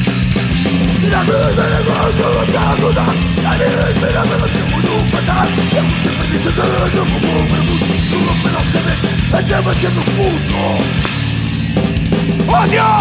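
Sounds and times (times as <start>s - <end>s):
bass guitar: 0.0s - 13.0s
distorted electric guitars: 0.0s - 13.0s
fast driving drums: 0.0s - 13.0s
bending guitar line: 0.4s - 11.6s.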